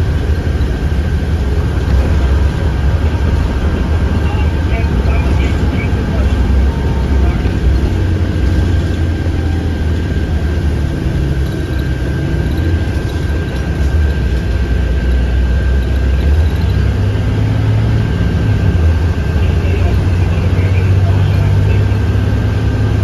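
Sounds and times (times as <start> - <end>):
bus engine drone: 0.0 - 23.0
road and wind noise: 0.0 - 23.0
thin steady whine: 0.0 - 23.0.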